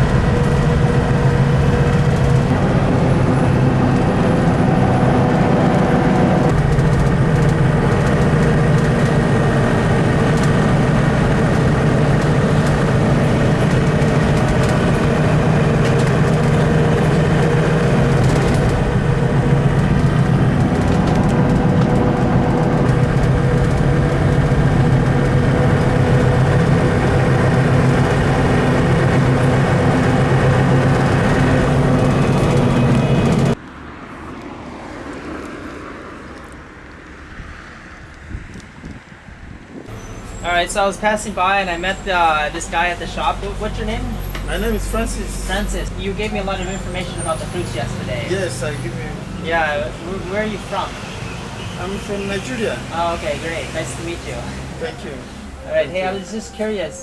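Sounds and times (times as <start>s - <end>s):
car engine and road drone: 0.0s - 57.0s.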